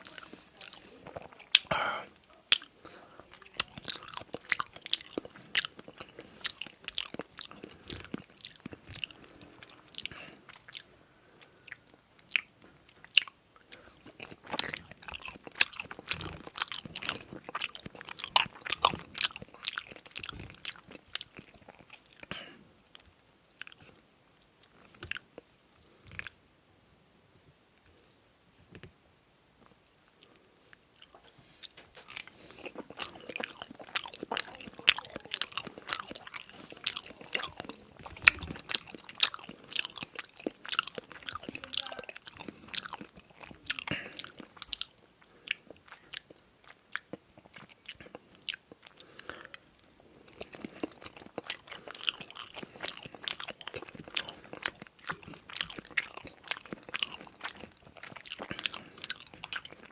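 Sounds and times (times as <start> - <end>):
person chewing with wet smacking: 0.0 - 26.4, 29.6 - 59.9.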